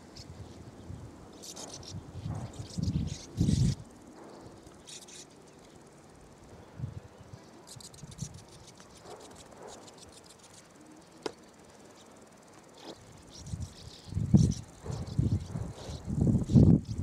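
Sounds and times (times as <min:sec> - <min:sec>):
sand martins chattering: 0:00.0 - 0:17.0.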